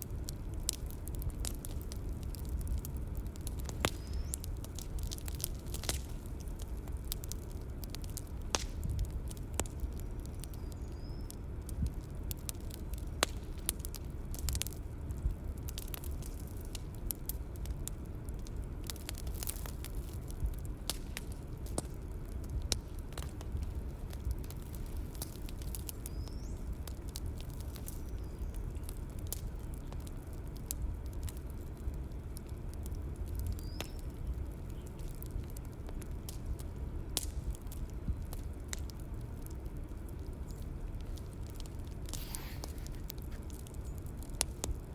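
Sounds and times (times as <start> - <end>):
bonfire crackling: 0.0 - 44.9
fire popping and snapping: 0.0 - 44.9
low rumble of burning: 0.0 - 44.9.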